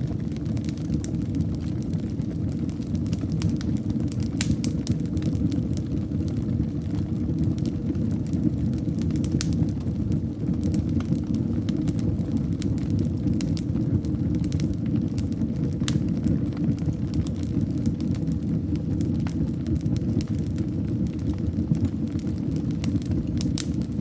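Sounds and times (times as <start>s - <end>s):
fire crackles and pops: 0.0s - 24.0s
fire flames rumbling: 0.0s - 24.0s.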